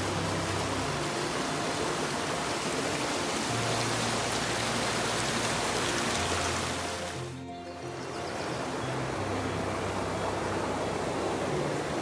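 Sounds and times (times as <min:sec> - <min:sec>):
slow low sustained chords: 0:00.0 - 0:12.0
stream rushing over rocks: 0:00.0 - 0:12.0.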